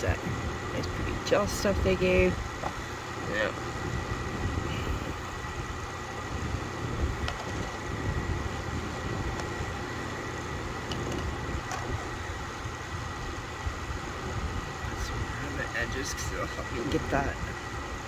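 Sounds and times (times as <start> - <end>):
high-pitched whine: 0.0 - 18.0
low background rumble: 0.0 - 18.0.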